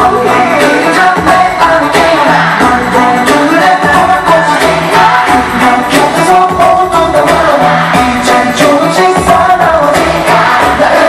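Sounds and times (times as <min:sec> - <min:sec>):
male voices singing: 0:00.0 - 0:11.0
steady driving beat: 0:00.0 - 0:11.0.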